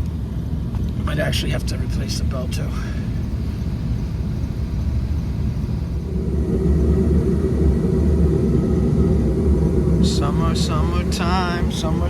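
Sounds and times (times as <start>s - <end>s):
rooftop heating unit rumbling: 0.0s - 12.0s.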